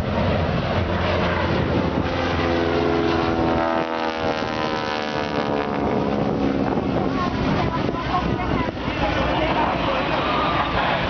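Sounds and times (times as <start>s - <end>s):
plane engine drone flying past: 0.0s - 11.0s.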